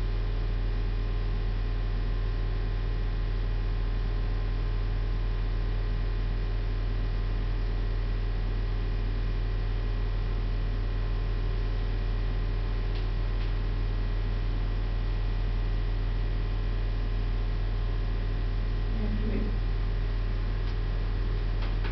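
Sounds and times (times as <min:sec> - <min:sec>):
electrical mains hum: 0:00.0 - 0:21.9.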